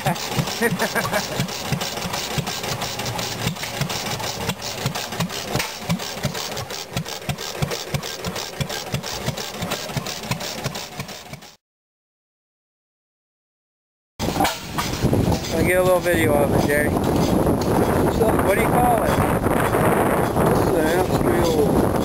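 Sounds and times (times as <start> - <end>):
stationary engine thumping: 0.0 - 11.6, 14.2 - 22.0.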